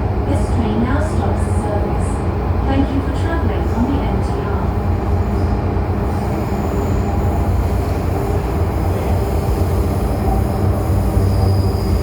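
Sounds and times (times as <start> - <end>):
metro train wheels rumbling on track: 0.0 - 12.0.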